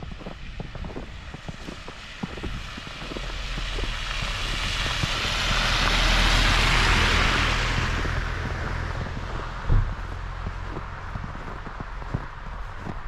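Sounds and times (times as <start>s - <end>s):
vehicle passing by: 2.4s - 13.0s.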